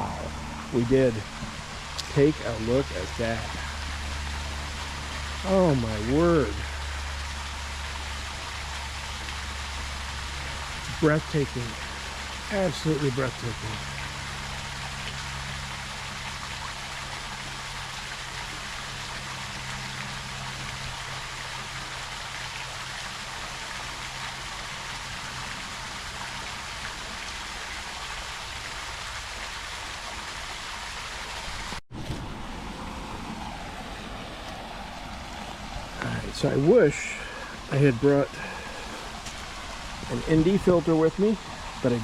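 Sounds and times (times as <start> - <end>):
low hum: 0.0 - 29.0, 31.2 - 42.0
waterfall rushing: 0.0 - 42.0.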